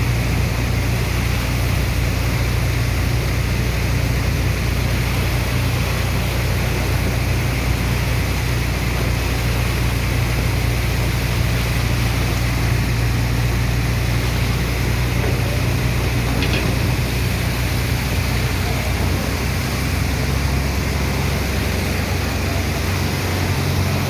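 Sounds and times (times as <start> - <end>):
engine and pump humming: 0.0 - 24.0
rushing water: 0.0 - 24.0.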